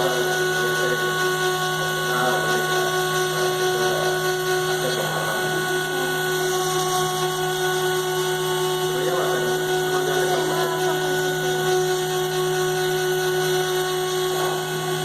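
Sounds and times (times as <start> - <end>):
cnc router spindle whine: 0.0 - 15.0
router cutting noise: 0.0 - 15.0.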